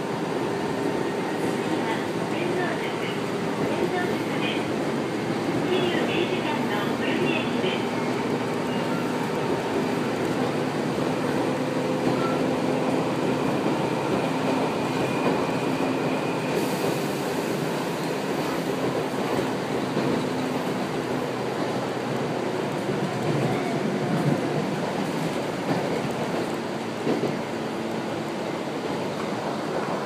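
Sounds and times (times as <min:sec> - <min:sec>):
train wheels on rail: 0:00.0 - 0:30.0.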